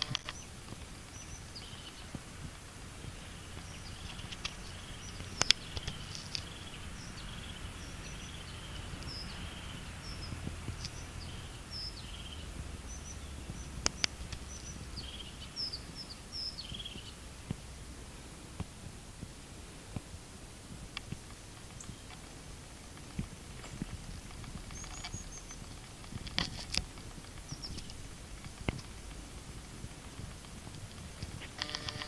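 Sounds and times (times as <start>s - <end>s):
sharp clicks: 0.0s - 17.6s, 20.9s - 32.0s
low steady rumble: 0.0s - 32.0s
songbirds chirping: 0.0s - 32.0s.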